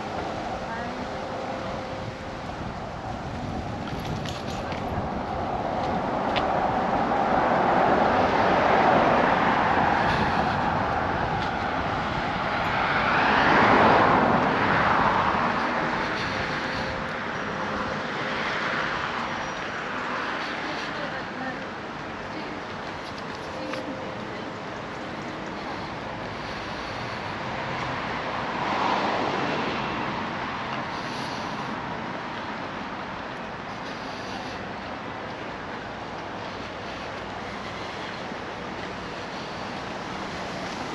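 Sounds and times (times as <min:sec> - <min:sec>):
cars passing: 0:00.0 - 0:40.9
street background noise: 0:00.0 - 0:40.9.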